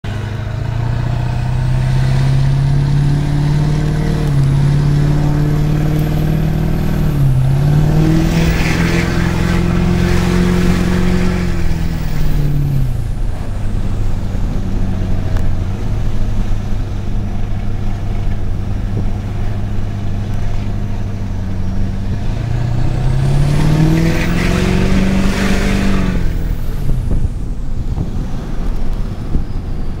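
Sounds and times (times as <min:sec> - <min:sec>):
diesel engine accelerating: 0:00.0 - 0:30.0.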